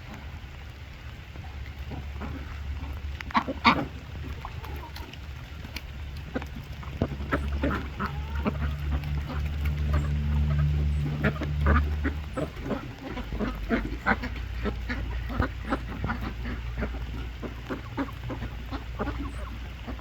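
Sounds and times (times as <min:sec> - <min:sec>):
steady low rumble: 0:00.0 - 0:20.0
ducks quacking: 0:01.4 - 0:20.0.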